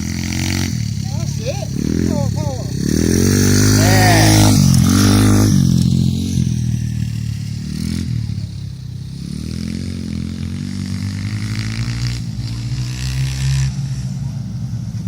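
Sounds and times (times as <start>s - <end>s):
pit bike engines racing: 0.0s - 15.0s.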